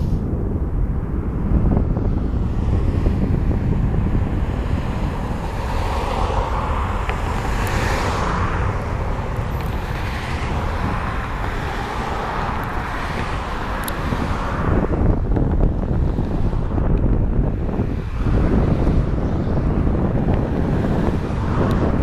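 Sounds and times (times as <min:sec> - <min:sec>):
car tyres passing: 0:00.0 - 0:22.0
distant jet engines roaring: 0:00.0 - 0:22.0
wind buffeting microphone: 0:00.0 - 0:22.0.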